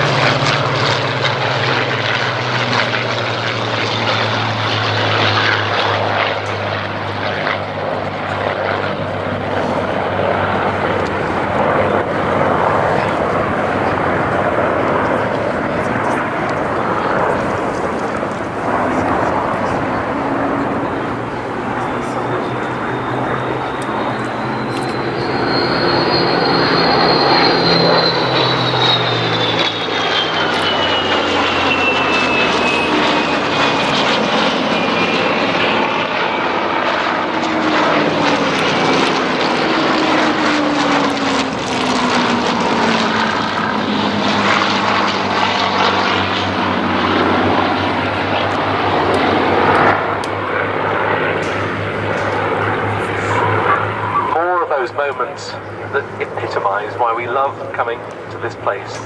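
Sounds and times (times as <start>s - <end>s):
propeller aircraft engines droning: 0.0s - 59.0s.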